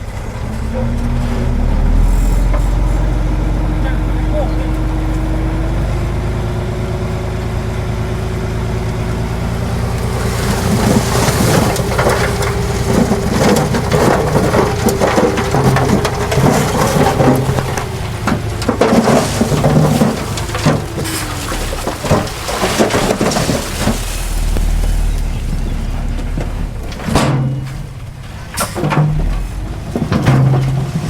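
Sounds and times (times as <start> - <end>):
diesel machinery humming: 0.0 - 31.0
soil and rock crunching: 0.0 - 31.0.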